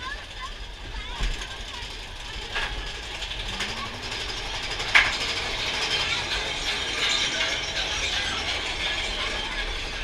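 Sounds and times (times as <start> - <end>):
lift chain ratchet clattering: 1.2 - 10.0.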